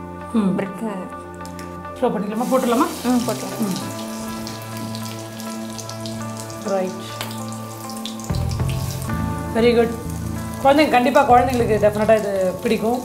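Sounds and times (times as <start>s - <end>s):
background music: 0.0s - 13.0s
bread deep-frying in oil: 2.4s - 13.0s.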